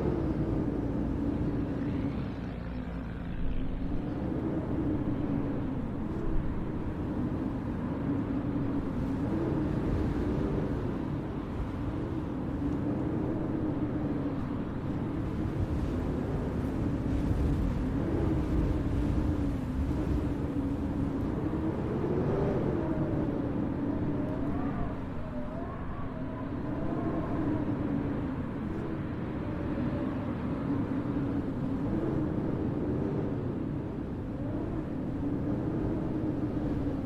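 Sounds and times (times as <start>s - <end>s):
blizzard wind howling: 0.0s - 37.0s.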